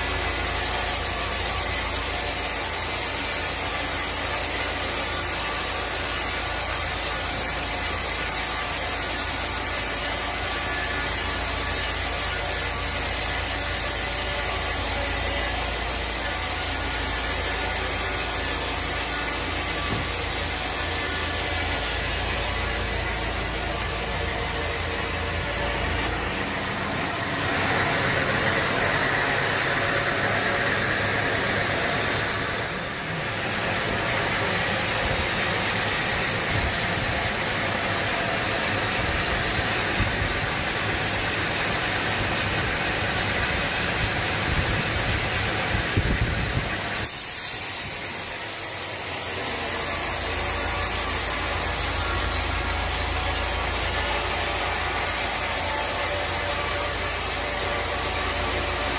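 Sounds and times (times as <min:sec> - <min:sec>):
machinery noise: 0:00.0 - 0:58.9
saw cutting through log: 0:00.0 - 0:58.9
steady whine: 0:00.0 - 0:58.9.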